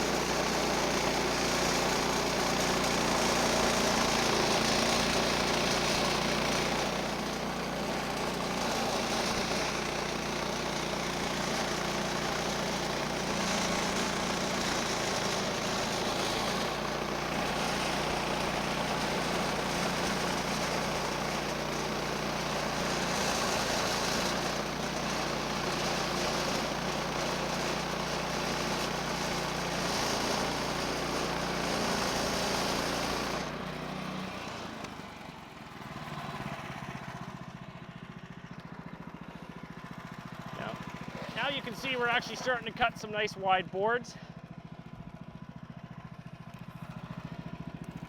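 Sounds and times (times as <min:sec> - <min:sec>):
engine running at high throttle: 0:00.0 - 0:48.0.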